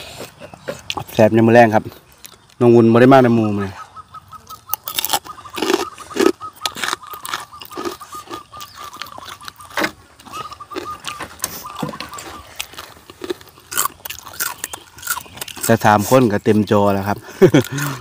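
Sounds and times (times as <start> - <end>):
people chewing crunchy food: 0.0 - 18.0.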